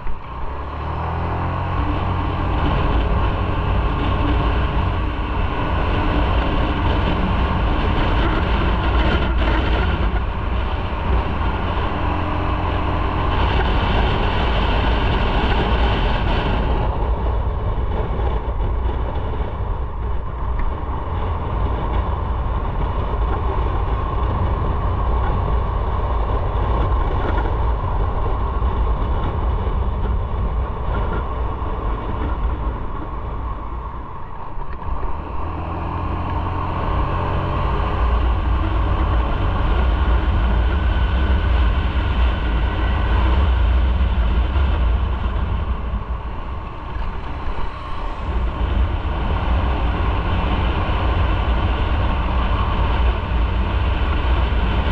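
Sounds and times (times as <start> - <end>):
motorcycle engine: 0.0 - 54.9
wind rumble on microphone: 0.0 - 54.9.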